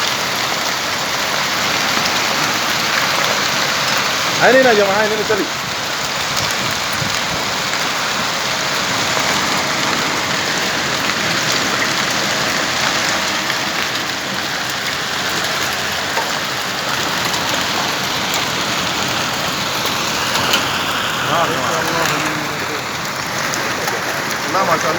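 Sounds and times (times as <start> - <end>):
hailstones ticking: 0.0 - 24.9
heavy rain falling: 0.0 - 24.9.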